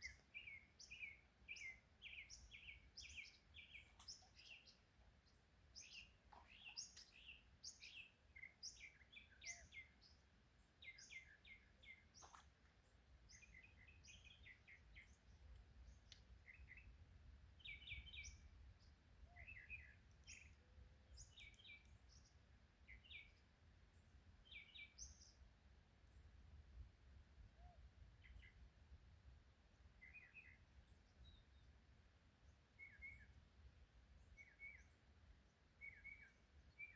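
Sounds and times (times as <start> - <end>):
faint bird chirping: 0.0 - 29.0, 29.6 - 36.9.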